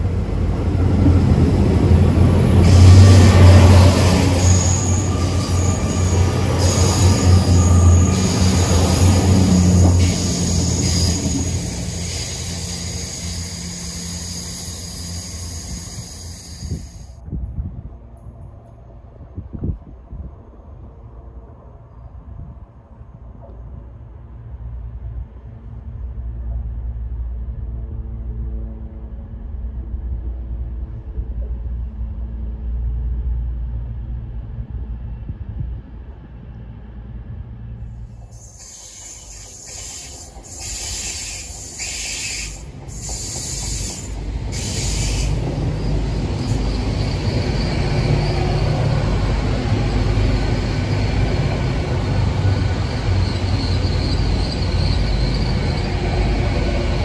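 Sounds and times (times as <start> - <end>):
train running past: 0.0 - 57.0.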